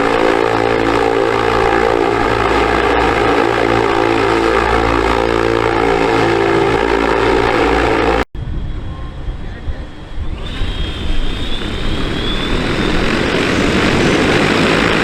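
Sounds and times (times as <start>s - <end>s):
electric motor whine with propeller: 0.0s - 8.2s, 10.3s - 15.0s.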